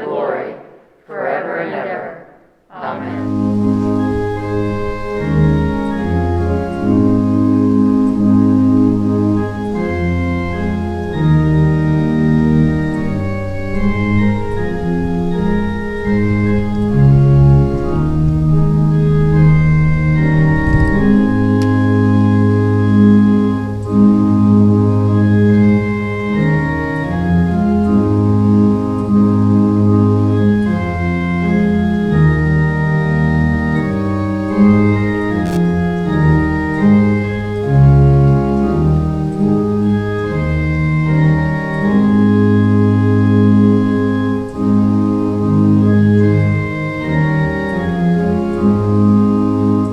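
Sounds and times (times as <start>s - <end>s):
organ playing sustained chords: 0.0s - 49.9s.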